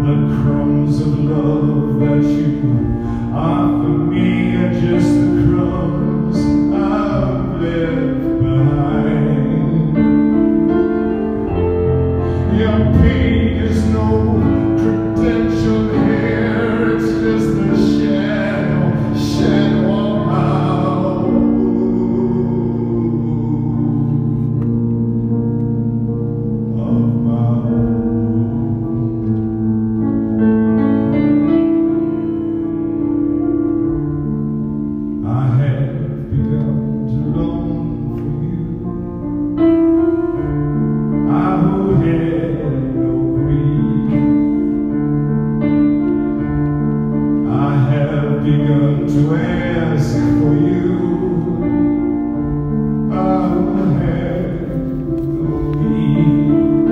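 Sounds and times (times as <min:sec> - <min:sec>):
man singing slow song: 0:00.0 - 0:25.4, 0:26.0 - 0:29.4, 0:33.8 - 0:56.9
piano playing: 0:00.0 - 0:56.9.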